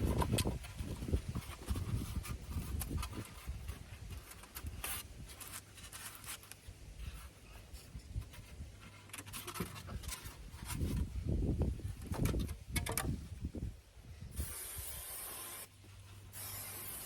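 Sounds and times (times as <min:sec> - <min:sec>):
rubbing and scratching handling noise: 0:00.0 - 0:13.8, 0:15.7 - 0:16.5.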